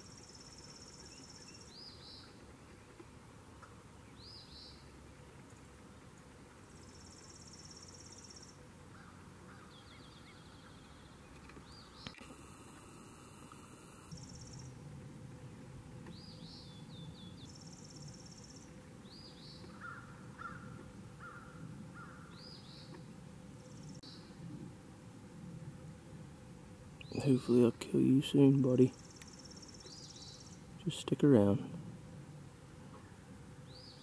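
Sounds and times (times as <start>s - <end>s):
songbirds trilling and chirping: 0.0s - 14.8s, 15.4s - 24.4s, 26.8s - 34.0s.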